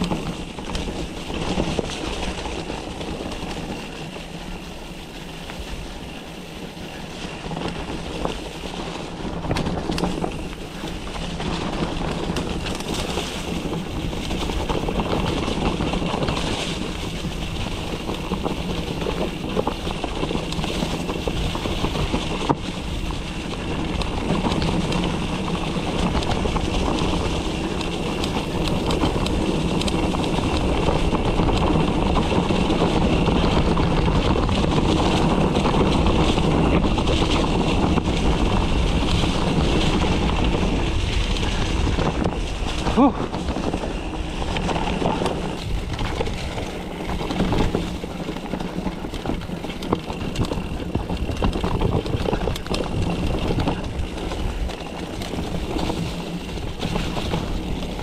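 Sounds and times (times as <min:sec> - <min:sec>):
bike rattling over ground: 0:00.0 - 0:58.0
wind rushing over microphone: 0:00.0 - 0:58.0.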